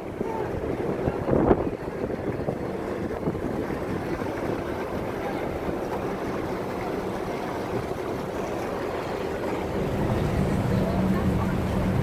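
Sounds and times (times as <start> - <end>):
ship machinery hum: 0.0 - 12.0
wind over microphone: 0.0 - 12.0.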